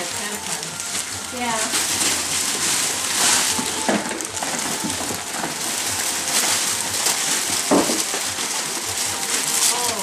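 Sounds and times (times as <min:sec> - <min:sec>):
plastic bags rustling and crinkling: 0:00.0 - 0:10.0.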